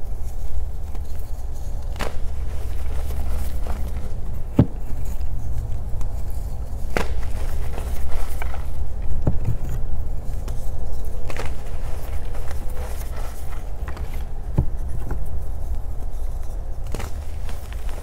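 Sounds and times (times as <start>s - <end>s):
chalk crumbling: 0.0s - 18.0s
chalk pieces snapping: 0.3s - 18.0s.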